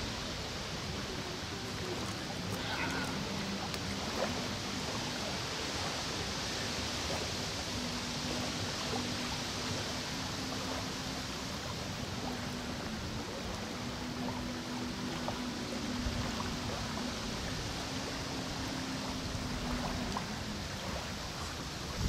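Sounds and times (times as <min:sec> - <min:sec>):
fast-flowing river rushing: 0:00.0 - 0:22.0.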